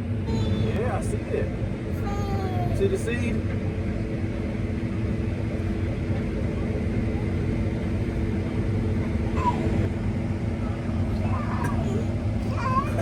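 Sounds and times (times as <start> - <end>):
combine harvester droning: 0.0 - 13.0.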